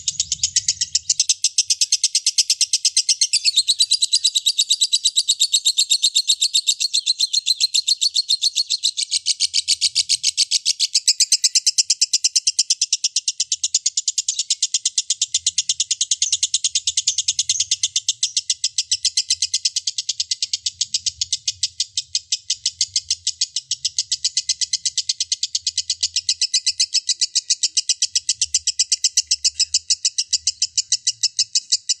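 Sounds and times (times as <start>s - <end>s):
lovebird chattering song: 0.0s - 32.0s.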